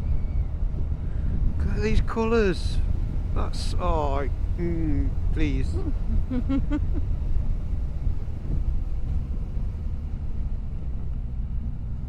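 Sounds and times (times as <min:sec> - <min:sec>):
motorbike engine rumble: 0:00.0 - 0:12.0
wind noise on microphone: 0:00.0 - 0:12.0.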